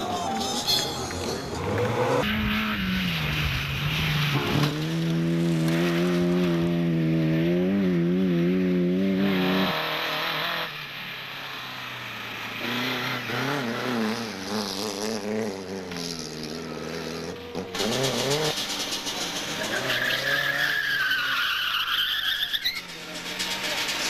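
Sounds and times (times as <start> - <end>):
quieter car engine wavering: 0.0 - 24.0
rally car engine revving: 0.9 - 24.0.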